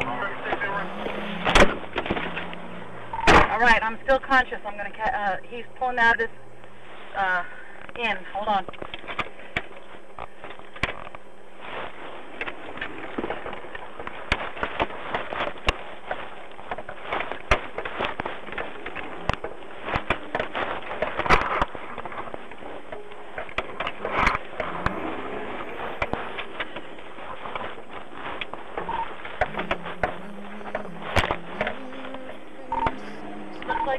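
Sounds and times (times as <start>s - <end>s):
crackling and popping clicks: 0.0s - 4.2s, 8.6s - 11.3s, 12.4s - 33.9s.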